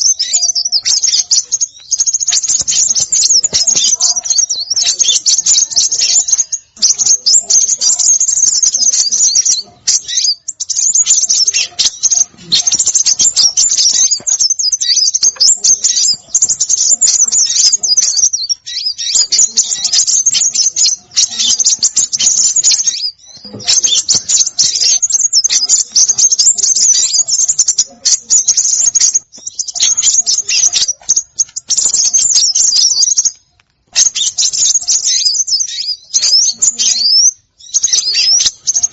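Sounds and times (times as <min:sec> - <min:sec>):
songbirds chattering chirps: 0:00.0 - 0:38.9.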